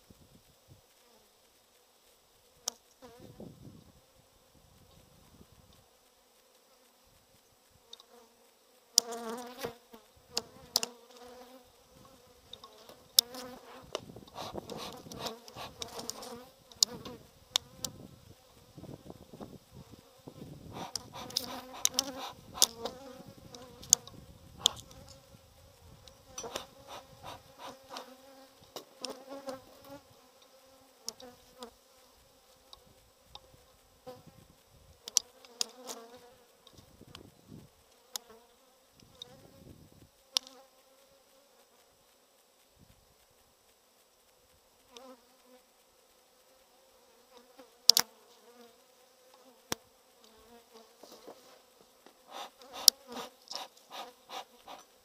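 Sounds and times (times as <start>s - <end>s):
honeybees buzzing: 2.5s - 42.0s, 44.2s - 55.0s.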